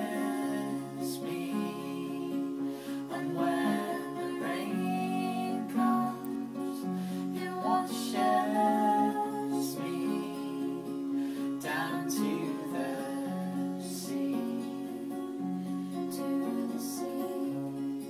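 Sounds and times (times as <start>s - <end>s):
acoustic guitars playing folk song: 0.0s - 18.0s
person singing: 0.0s - 18.0s.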